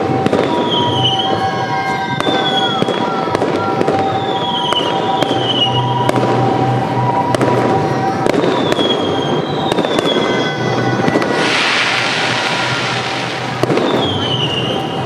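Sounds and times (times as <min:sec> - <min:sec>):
fireworks bangs and crackling: 0:00.0 - 0:15.0
fireworks whistling: 0:00.0 - 0:15.0.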